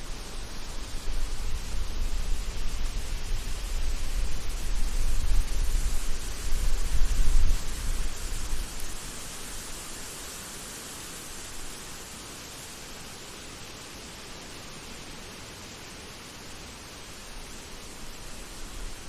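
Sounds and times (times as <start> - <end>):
outdoor ambience hiss: 0.0 - 19.0.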